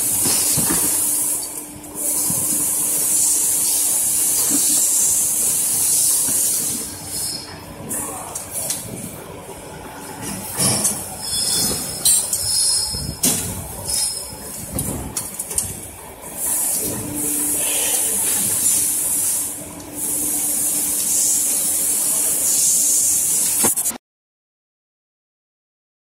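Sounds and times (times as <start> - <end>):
steady loud hiss: 0.0 - 24.0.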